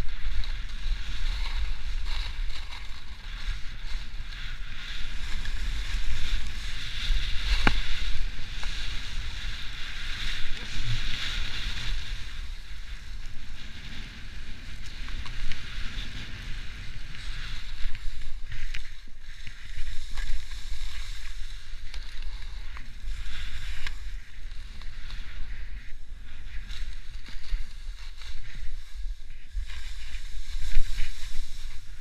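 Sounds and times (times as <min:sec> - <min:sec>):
skis hissing over snow: 0:00.0 - 0:32.0
wind buffeting microphone: 0:00.0 - 0:32.0.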